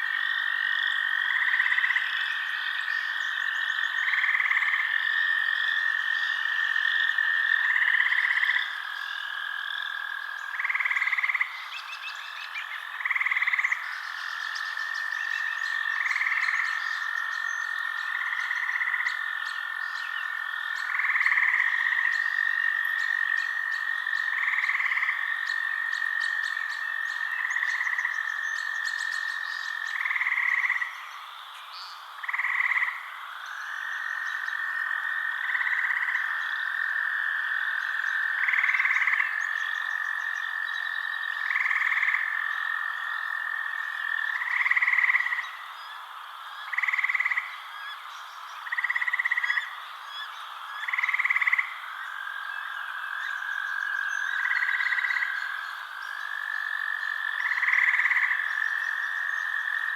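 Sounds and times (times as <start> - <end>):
frogs croaking: 0.0 - 59.9
frogs trilling: 0.0 - 59.9.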